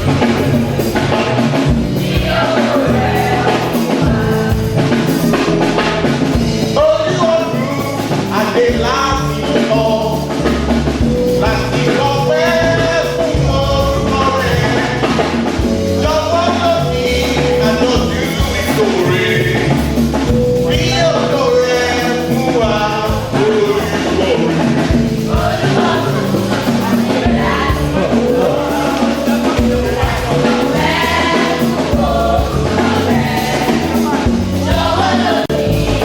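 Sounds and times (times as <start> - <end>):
drums with steady beat: 0.0 - 36.0
voices singing praise music: 0.0 - 36.0.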